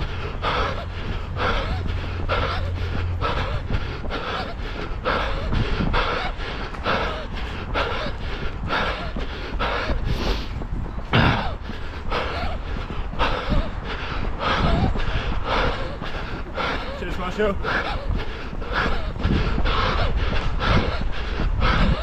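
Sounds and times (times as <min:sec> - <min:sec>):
low rumble: 0:00.0 - 0:22.0
runner breathing heavily: 0:00.0 - 0:22.0.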